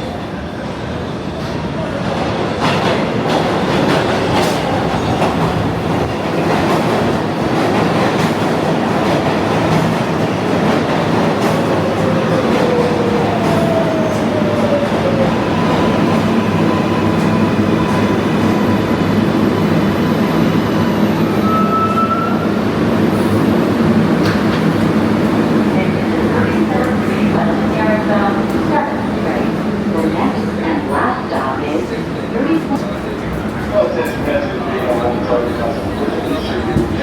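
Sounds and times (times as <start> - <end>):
subway train rumbling on rails: 0.0 - 37.0.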